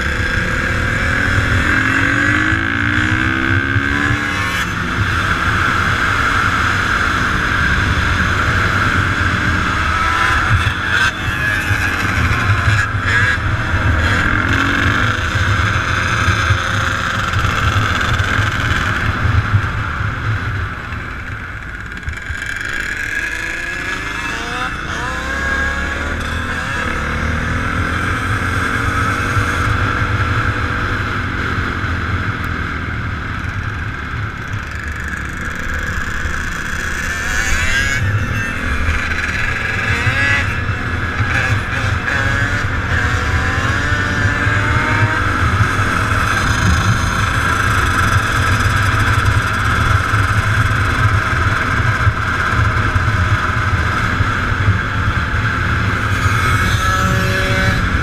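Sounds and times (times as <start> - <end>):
motorbike engines revving: 0.0 - 58.0.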